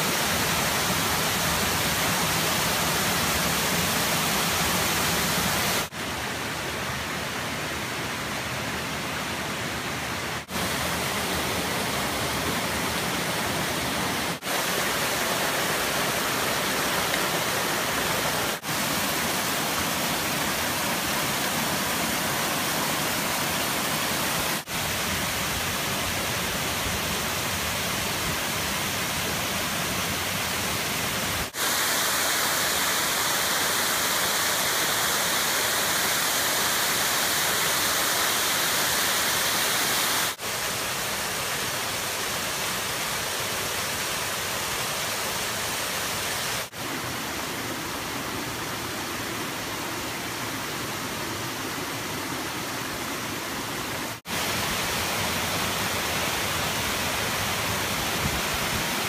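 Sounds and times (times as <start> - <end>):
water rushing over rocky stream: 0.0 - 59.0.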